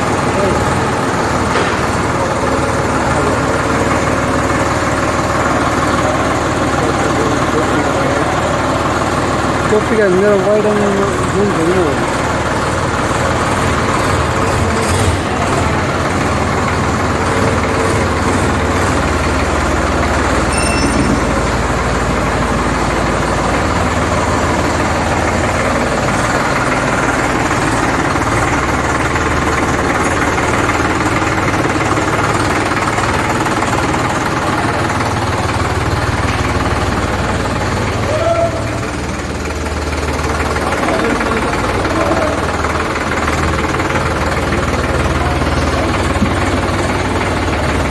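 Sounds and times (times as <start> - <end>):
tractor diesel engine clattering: 0.0 - 47.9.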